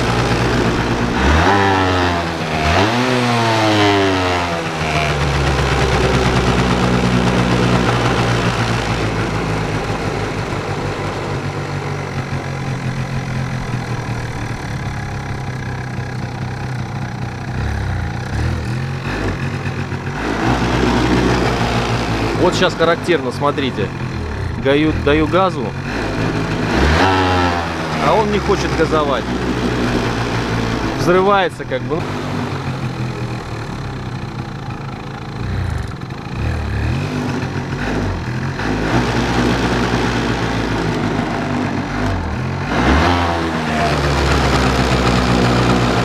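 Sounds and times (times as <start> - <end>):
scooter engine revving: 0.0 - 46.0.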